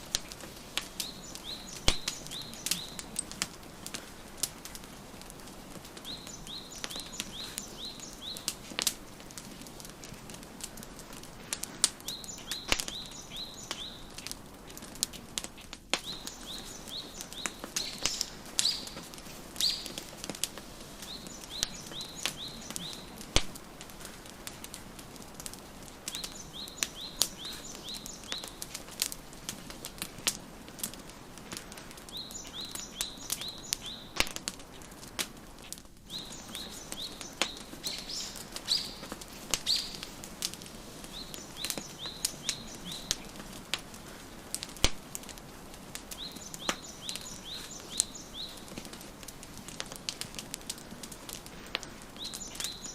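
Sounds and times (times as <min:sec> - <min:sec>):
wood fire crackling and popping: 0:00.0 - 0:52.9
songbird chirping: 0:00.1 - 0:14.9, 0:15.5 - 0:35.0, 0:36.0 - 0:44.1, 0:44.7 - 0:49.0, 0:51.7 - 0:52.9.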